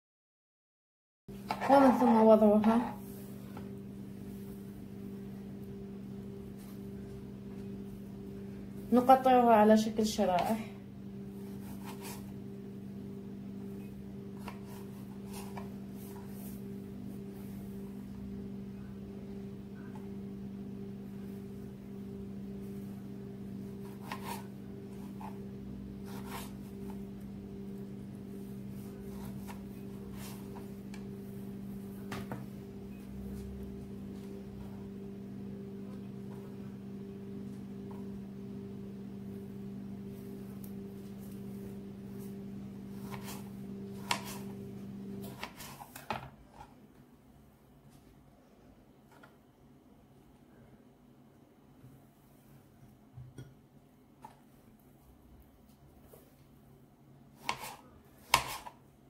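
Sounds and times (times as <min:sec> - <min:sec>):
low mechanical hum: 0:01.3 - 0:59.0.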